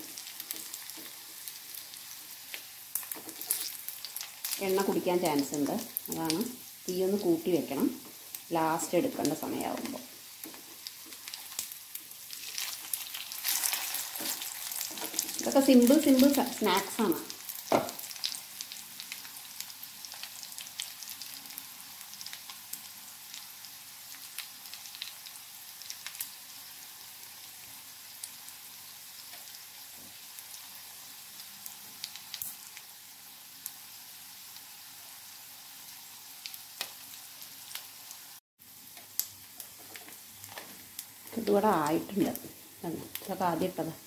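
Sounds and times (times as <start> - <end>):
patties sizzling in oil: 0.0 - 44.0.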